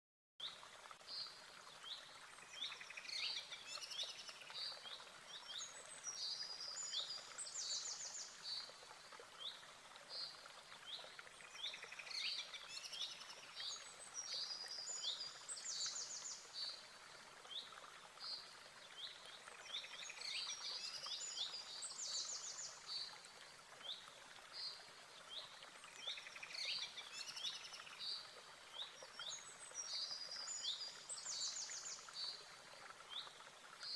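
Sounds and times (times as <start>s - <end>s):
faint steady hiss: 0.4s - 33.9s.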